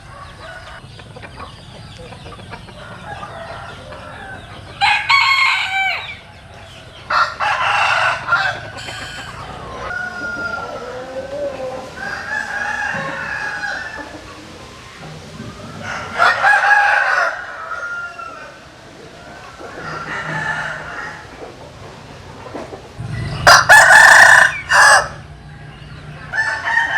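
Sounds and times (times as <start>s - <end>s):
roosters crowing: 0.0s - 1.6s, 2.2s - 26.9s
chickens clucking: 0.0s - 26.9s.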